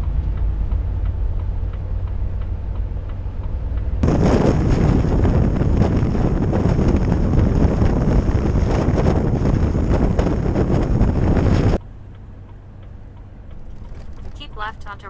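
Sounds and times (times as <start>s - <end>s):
low steady hum: 0.0s - 15.0s
road rumble: 0.0s - 15.0s
wind buffeting microphone: 0.0s - 15.0s.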